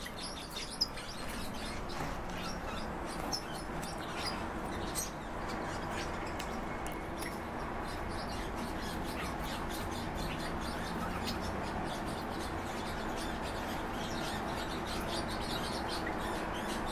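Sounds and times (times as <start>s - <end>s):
caged birds chirping: 0.0s - 16.9s.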